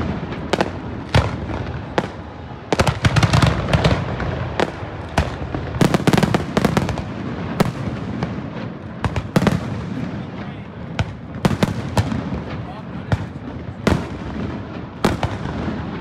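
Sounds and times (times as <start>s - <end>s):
fireworks bursting with bangs: 0.0s - 16.0s.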